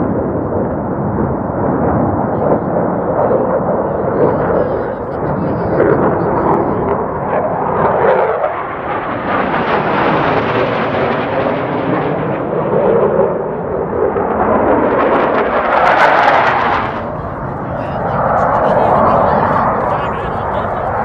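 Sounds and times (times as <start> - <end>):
jet engines roaring overhead: 0.0 - 21.0.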